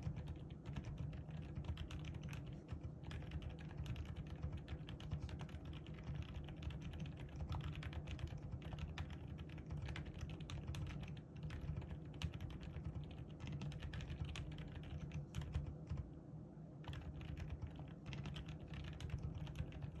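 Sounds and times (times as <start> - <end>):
mechanical keyboard typing: 0.0 - 16.1, 16.8 - 20.0.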